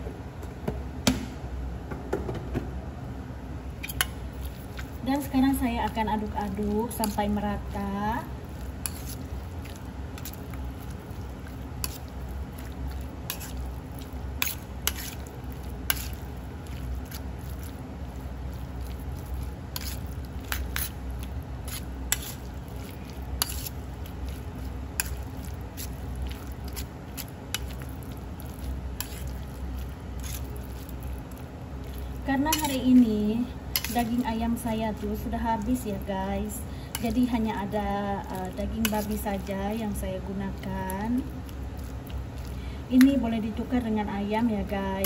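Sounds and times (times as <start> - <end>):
steady low hum: 0.0 - 45.0
wet squelching of meat: 3.8 - 43.4.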